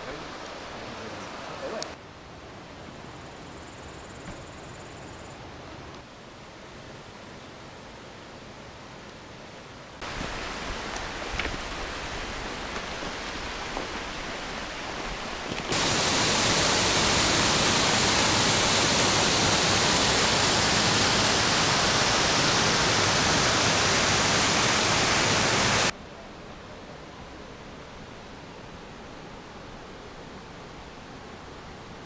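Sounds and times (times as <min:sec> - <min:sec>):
rushing water roar: 0:00.0 - 0:03.1, 0:05.4 - 0:32.0.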